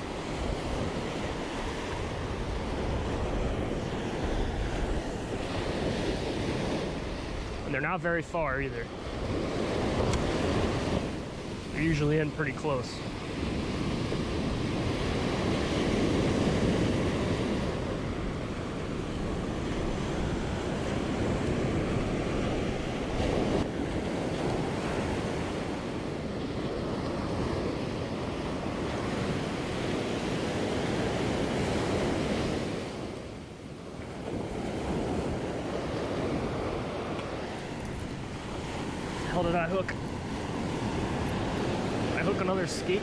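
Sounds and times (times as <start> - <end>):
surf breaking on beach: 0.0 - 43.0
wind buffeting microphone: 0.0 - 43.0.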